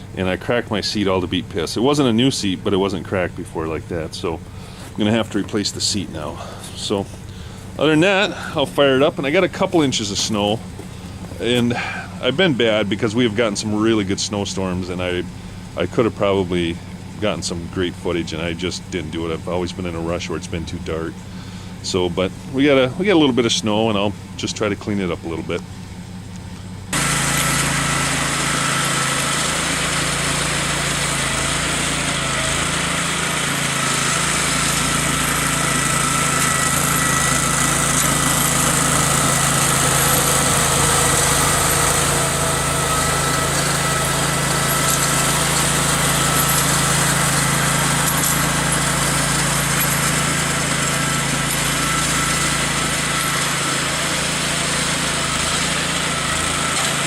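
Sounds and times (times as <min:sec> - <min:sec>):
constant whine: 0:00.0 - 0:55.5
garden tractor engine running: 0:00.0 - 0:57.0.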